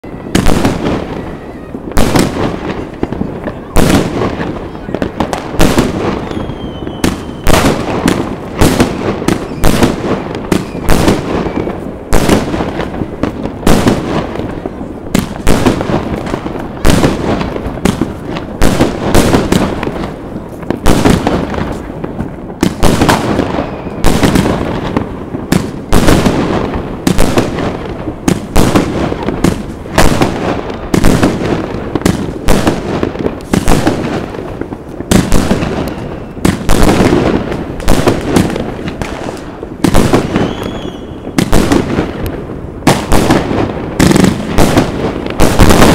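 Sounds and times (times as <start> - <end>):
fireworks and firecrackers banging: 0.0 - 45.9.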